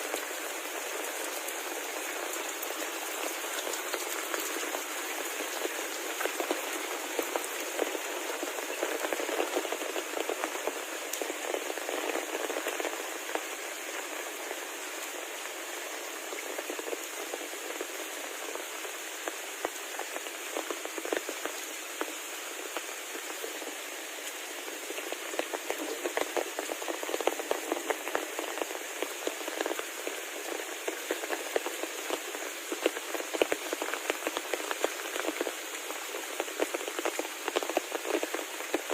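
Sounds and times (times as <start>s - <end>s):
heavy rain on hard surface: 0.0s - 38.9s.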